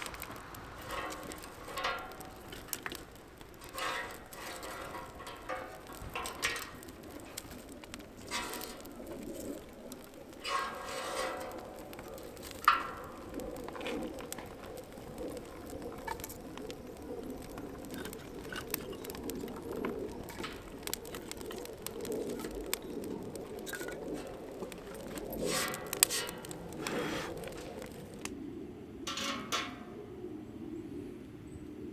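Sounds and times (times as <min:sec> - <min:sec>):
faint clicks: 0:00.0 - 0:28.4.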